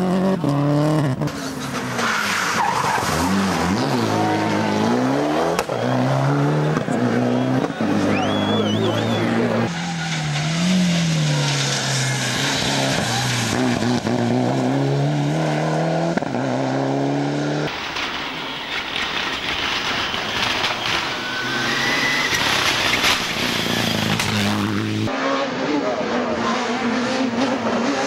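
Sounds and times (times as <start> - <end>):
rally car engine driven hard: 0.0 - 17.8, 19.8 - 28.0.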